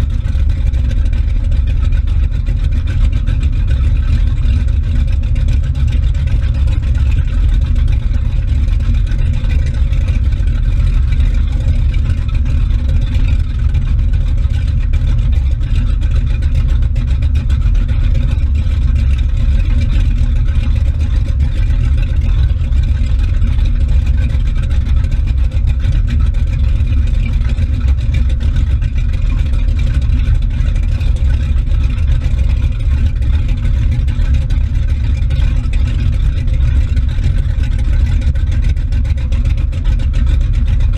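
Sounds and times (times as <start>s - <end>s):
motorboat engine running: 0.0s - 40.9s
wake churning and splashing: 0.0s - 40.9s.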